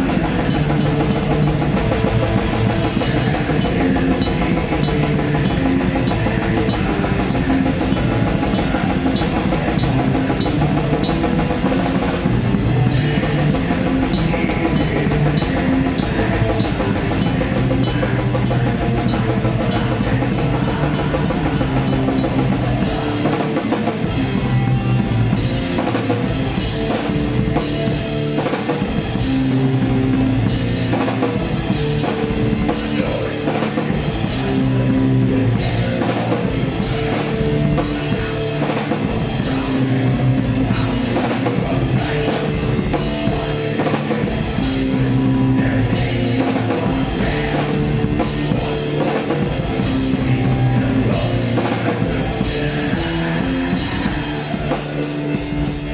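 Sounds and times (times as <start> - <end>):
electric guitar riffs: 0.0 - 55.9
fast dense drumming: 0.0 - 55.9.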